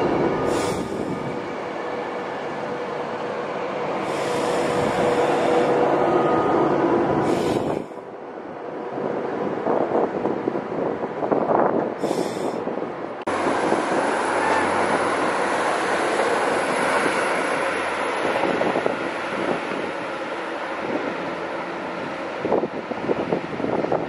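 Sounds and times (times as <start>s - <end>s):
electric train passing: 0.0s - 11.9s, 12.6s - 24.0s
diesel train rumble with low hum: 0.0s - 24.0s.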